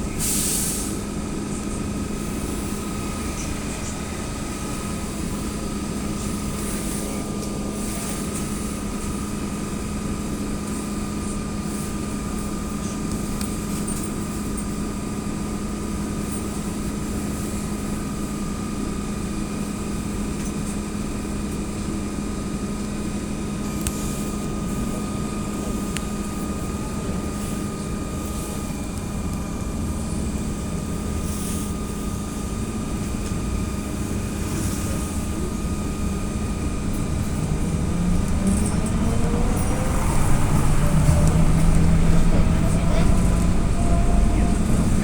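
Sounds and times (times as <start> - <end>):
trolleybus electric drive humming: 0.0 - 45.0.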